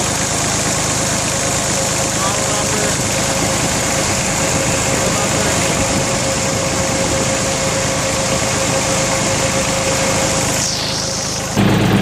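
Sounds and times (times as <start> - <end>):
diesel engine idling: 0.0 - 12.0
thin steady whine: 0.0 - 12.0.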